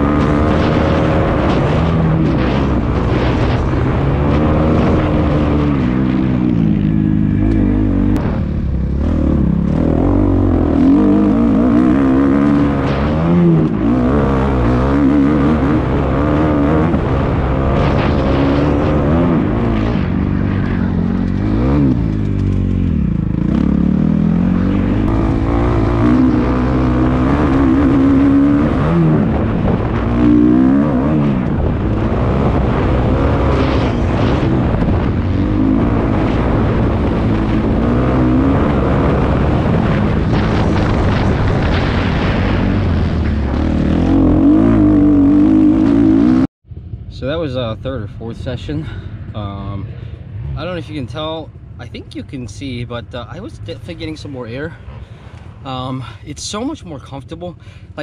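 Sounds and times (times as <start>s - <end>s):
motocross bike engine revving: 0.0s - 46.5s.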